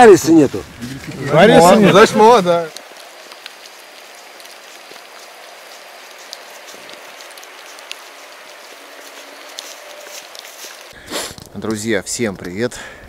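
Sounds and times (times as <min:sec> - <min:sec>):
soft outdoor hiss: 0:00.0 - 0:13.0.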